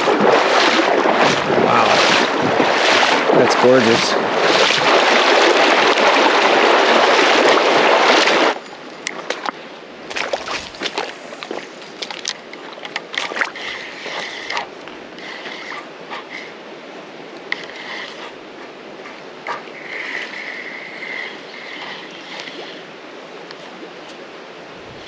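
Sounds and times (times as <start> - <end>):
creek water rushing over riffle: 0.0 - 25.0.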